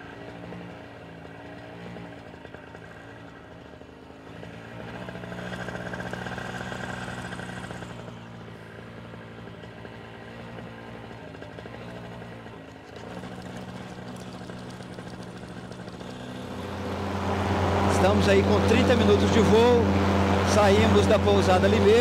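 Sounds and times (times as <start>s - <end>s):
paramotor engine drone: 0.0s - 22.0s.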